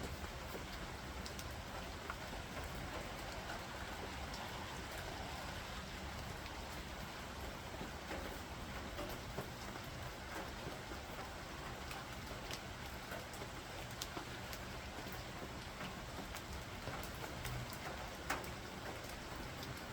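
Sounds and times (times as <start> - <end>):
raindrops ticking on surfaces: 0.0 - 19.9
steady rain hiss: 0.0 - 19.9.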